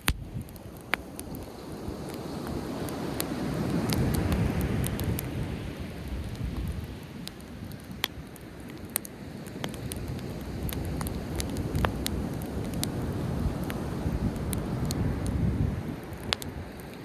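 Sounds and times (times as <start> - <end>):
campfire crackling: 0.0 - 17.0
fire pops and snaps: 0.0 - 17.0.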